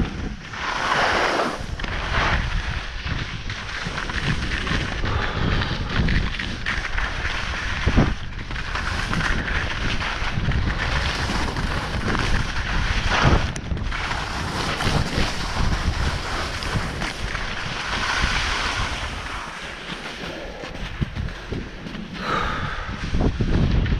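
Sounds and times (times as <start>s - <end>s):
wind buffeting microphone: 0.0s - 19.4s, 20.1s - 23.9s
skis scraping over snow: 0.0s - 23.9s.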